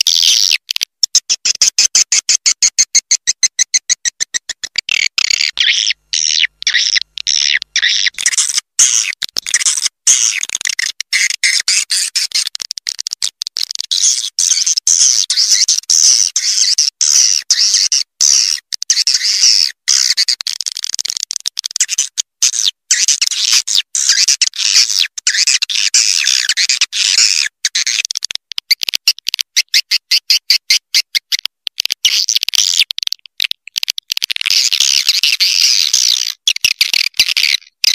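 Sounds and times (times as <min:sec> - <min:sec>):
rapid clicking chirps: 0:00.0 - 0:37.9.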